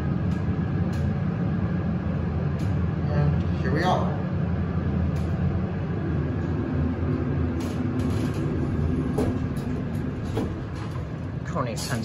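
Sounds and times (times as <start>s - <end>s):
elevator motor hum: 0.0s - 12.0s.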